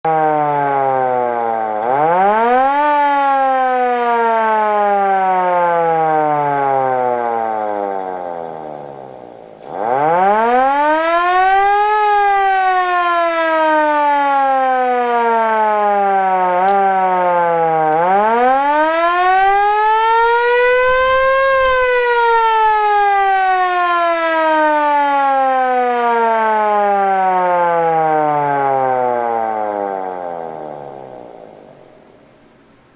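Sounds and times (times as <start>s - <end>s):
police siren wailing: 0.0s - 32.2s.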